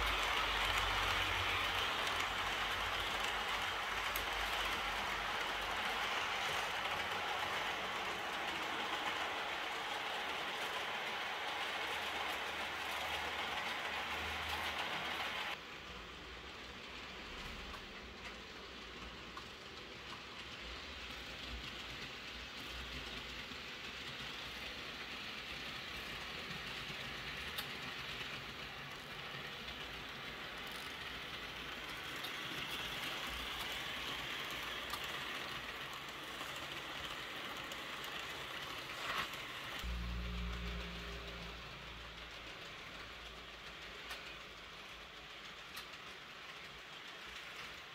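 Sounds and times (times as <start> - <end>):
model train rattling on track: 0.0 - 47.9.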